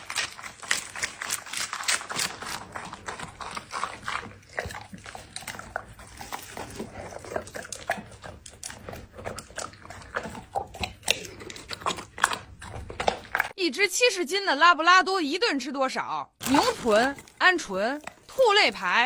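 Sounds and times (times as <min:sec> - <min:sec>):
dog crunching food: 0:00.0 - 0:13.6, 0:16.4 - 0:19.0.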